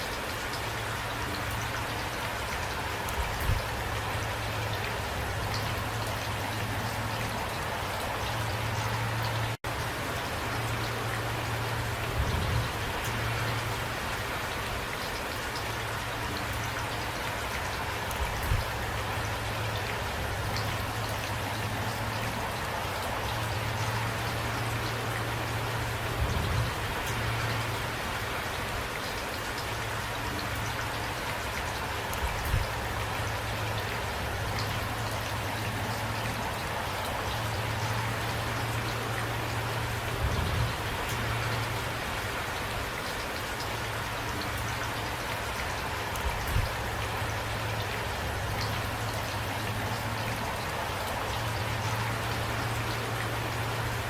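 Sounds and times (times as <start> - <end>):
raindrops ticking: 0.0 - 54.0
steady rain falling: 0.0 - 54.0.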